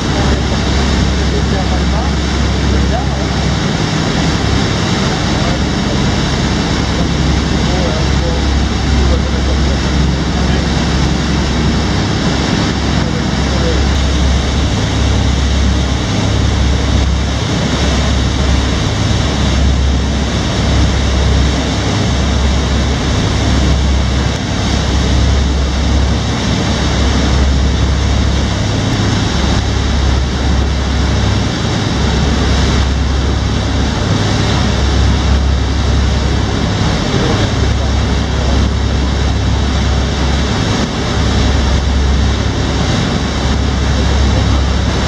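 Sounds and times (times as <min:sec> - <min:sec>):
boat engines rumbling: 0:00.0 - 0:45.0
water rushing in wake: 0:00.0 - 0:45.0.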